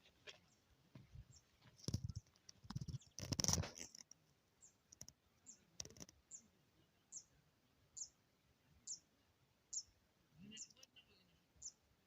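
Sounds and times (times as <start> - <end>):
small bird chirping: 1.3 - 8.2, 8.8 - 11.9.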